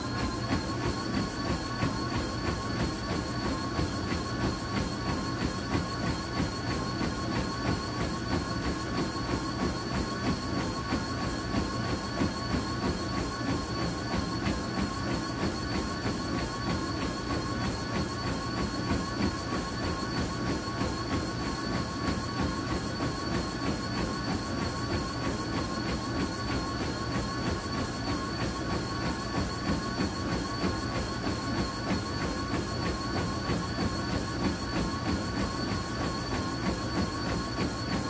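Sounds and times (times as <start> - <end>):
treadmill motor whine: 0.0 - 38.0.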